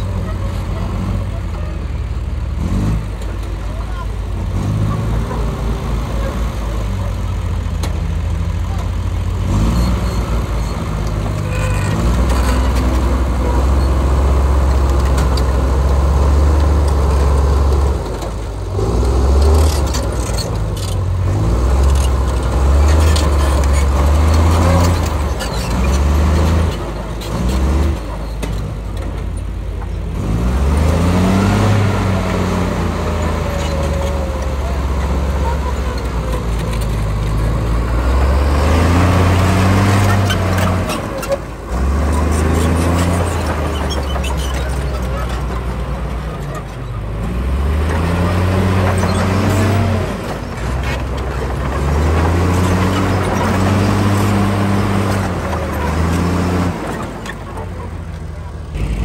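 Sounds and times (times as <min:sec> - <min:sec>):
heavy diesel engines revving: 0:00.0 - 0:59.0.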